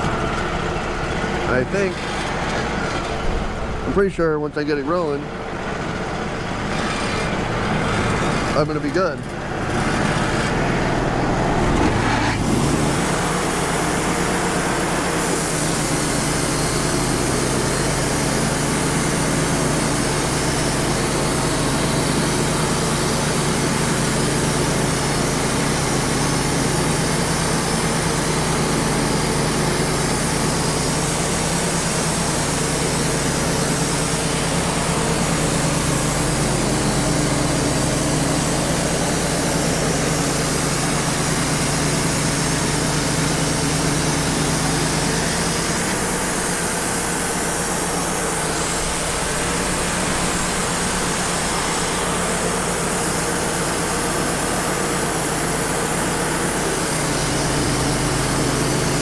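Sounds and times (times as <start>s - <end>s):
band sawmill sawing log: 0.0s - 59.0s
sawdust blower: 0.0s - 59.0s.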